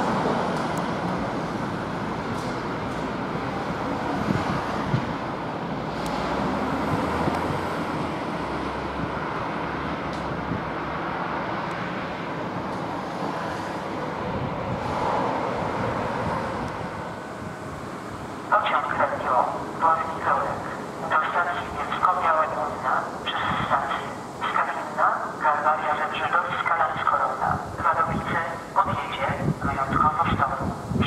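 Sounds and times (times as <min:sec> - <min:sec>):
cars passing on street: 0:00.0 - 0:31.0.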